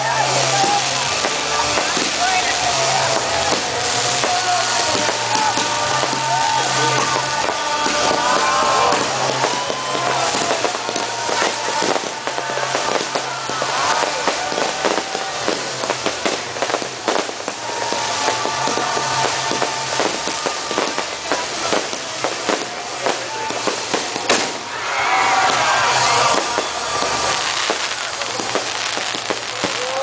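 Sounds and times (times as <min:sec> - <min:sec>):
loud music: 0:00.0 - 0:29.5
fireworks banging and crackling: 0:00.0 - 0:30.0.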